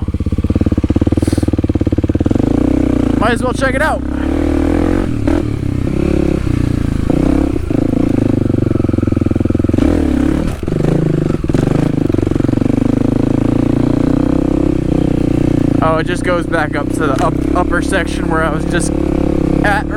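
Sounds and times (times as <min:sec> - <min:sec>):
dirt bike engine running: 0:00.0 - 0:19.9.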